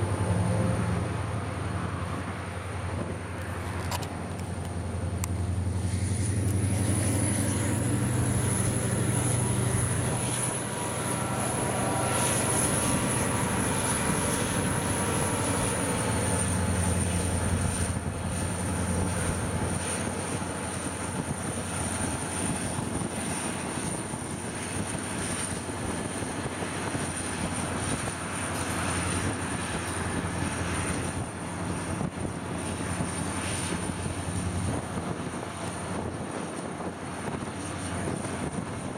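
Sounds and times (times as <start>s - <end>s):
high engine whine: 0.0s - 38.9s
locomotive diesel engine drone: 0.0s - 38.9s.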